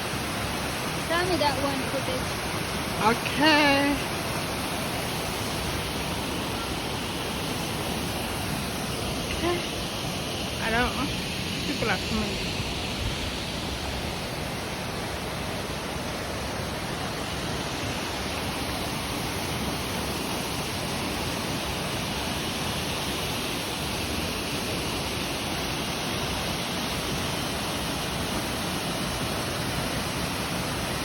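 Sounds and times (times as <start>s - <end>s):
waterfall rushing onto rocks: 0.0s - 31.0s.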